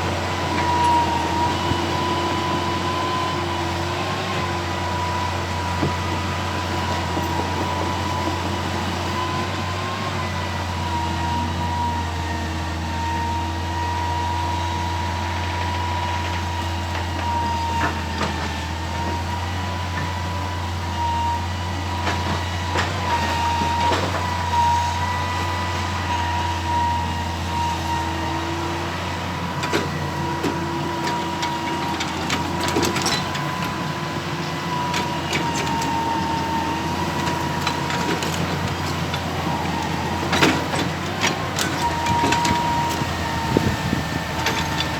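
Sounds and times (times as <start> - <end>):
excavator engine drone: 0.0 - 44.9.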